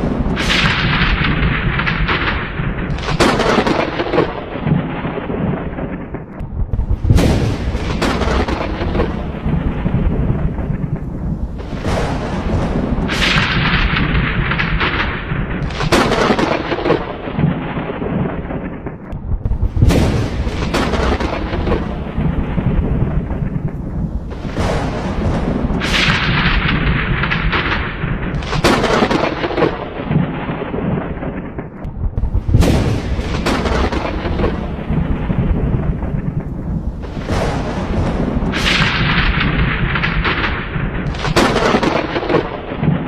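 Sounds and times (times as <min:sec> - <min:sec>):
thunder cracks: 0:00.0 - 0:43.0.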